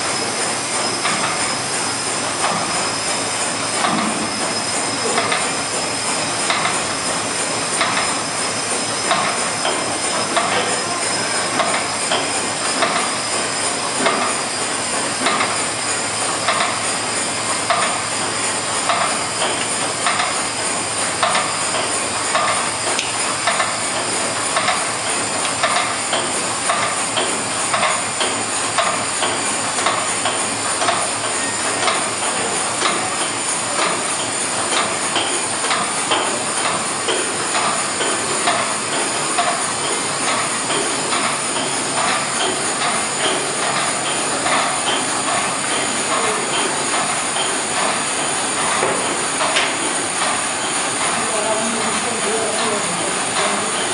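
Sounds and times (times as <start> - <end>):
steam engine clanking: 0.0 - 53.9
steam hissing: 0.0 - 53.9.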